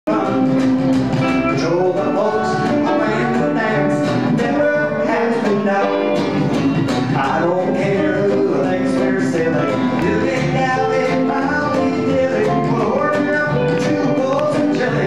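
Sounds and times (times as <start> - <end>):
country band playing: 0.1 - 15.0.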